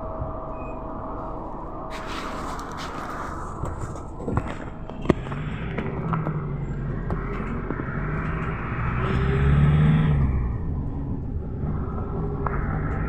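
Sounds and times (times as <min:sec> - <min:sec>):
minibus engine: 0:00.0 - 0:13.0
road noise: 0:01.1 - 0:13.0.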